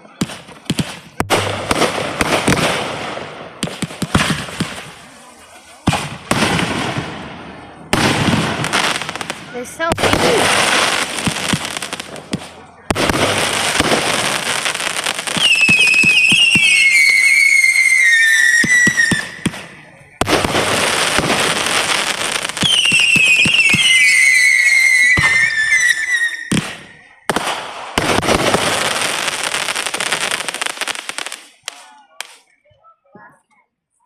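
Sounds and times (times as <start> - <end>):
fireworks sharp pops: 0.0 - 7.3, 7.9 - 17.4, 18.4 - 24.2, 25.0 - 32.6
fireworks crackling hiss: 0.0 - 32.6.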